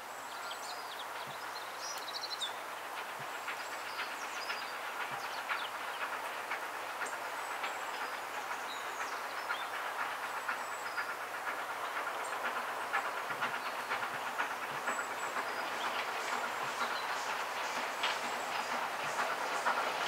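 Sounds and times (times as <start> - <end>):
distant steam train rushing: 0.0 - 20.0
faint clicks: 1.8 - 2.4, 3.0 - 20.0.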